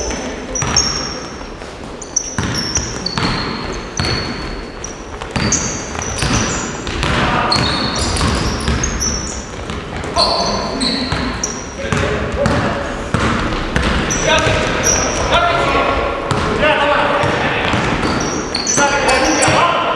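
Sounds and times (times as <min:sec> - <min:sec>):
basketballs bouncing: 0:00.0 - 0:19.9
echoing hall noise: 0:00.0 - 0:19.9
sneaker squeaks on court floor: 0:00.5 - 0:16.6, 0:17.2 - 0:19.7.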